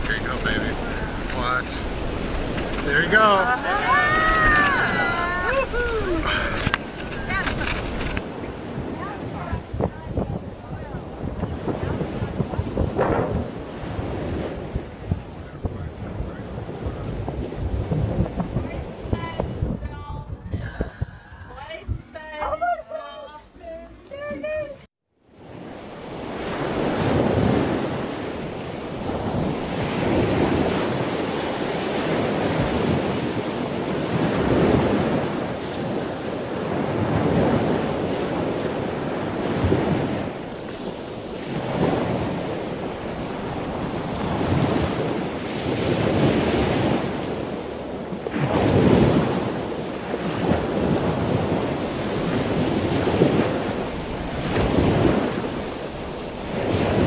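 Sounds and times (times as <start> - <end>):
wind buffeting the microphone: 0.0 - 22.8, 25.4 - 57.0
waves washing: 0.0 - 57.0.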